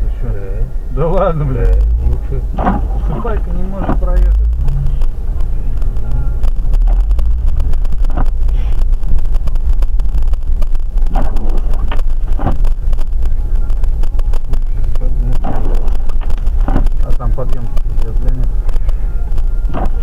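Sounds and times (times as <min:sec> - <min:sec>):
car rumbling: 0:00.0 - 0:20.0
crackling: 0:00.0 - 0:20.0
wind buffeting microphone: 0:01.6 - 0:20.0.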